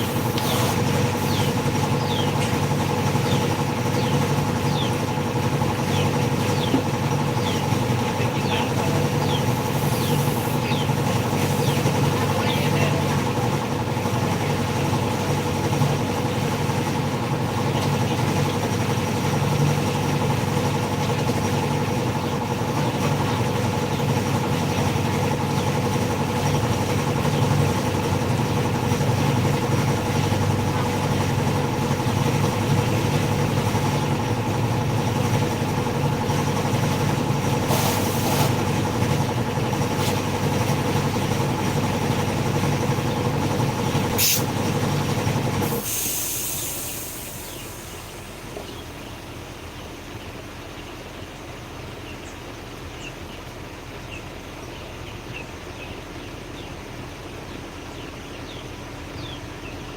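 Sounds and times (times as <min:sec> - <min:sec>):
engine humming: 0:00.0 - 0:59.9.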